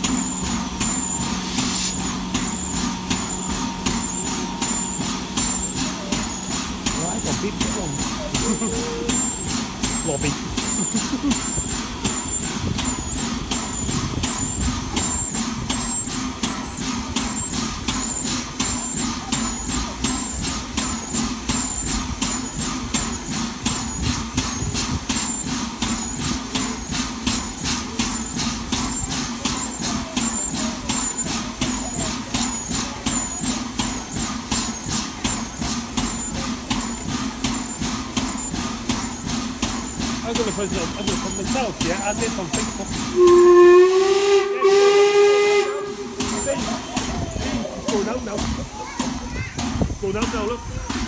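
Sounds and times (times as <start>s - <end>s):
steam locomotive hissing: 0.0s - 51.0s.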